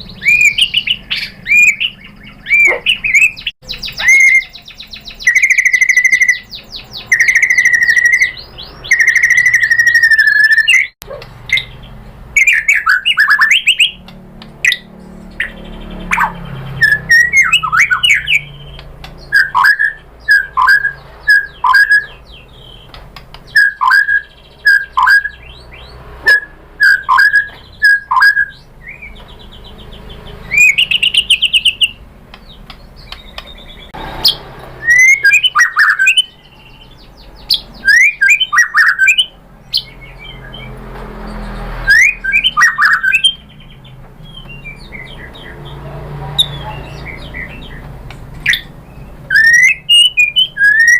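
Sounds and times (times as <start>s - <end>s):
bird singing whistled phrases: 0.0s - 11.8s, 12.4s - 14.0s, 14.7s - 29.2s, 30.4s - 32.0s, 34.8s - 40.7s, 41.8s - 45.6s, 48.4s - 50.9s.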